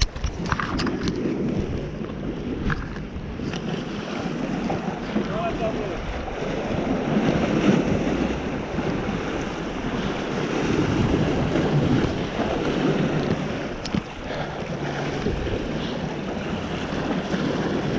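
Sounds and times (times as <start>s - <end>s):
waves splashing against rocks: 0.0s - 17.9s
wind buffeting microphone: 0.0s - 17.9s.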